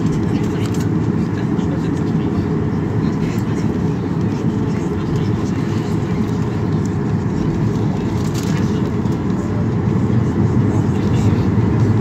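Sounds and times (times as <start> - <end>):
jet engines idling in cabin: 0.0 - 12.0.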